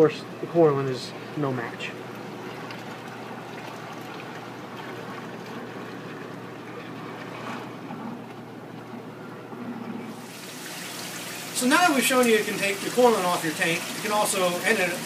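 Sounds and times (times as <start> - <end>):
water rushing in aquarium: 0.5 - 15.0.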